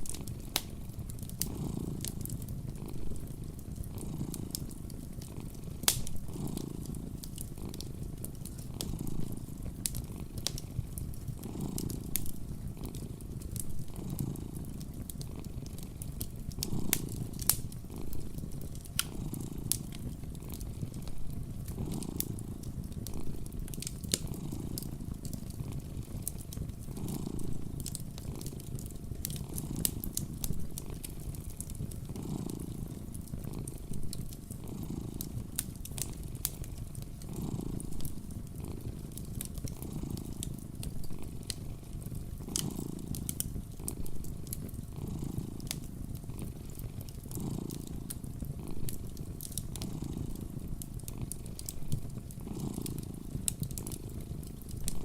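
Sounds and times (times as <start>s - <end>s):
cat purring: 0.0s - 55.0s
wood fire crackling: 0.0s - 55.0s.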